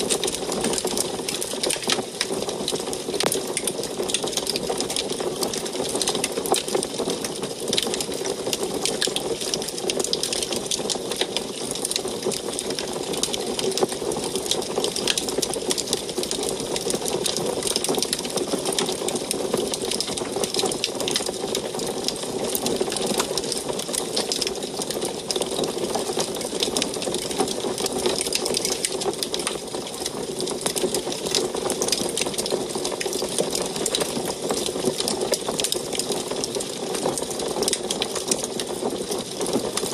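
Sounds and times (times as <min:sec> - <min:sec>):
continuous rushing hiss: 0:00.0 - 0:39.9
wood fire crackling: 0:00.0 - 0:39.9.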